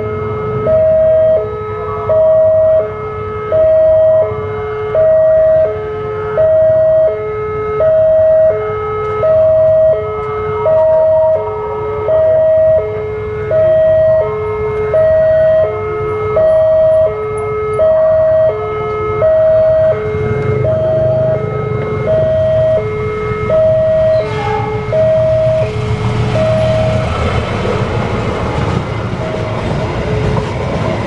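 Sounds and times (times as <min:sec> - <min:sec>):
two-tone crossing alarm: 0:00.0 - 0:31.0.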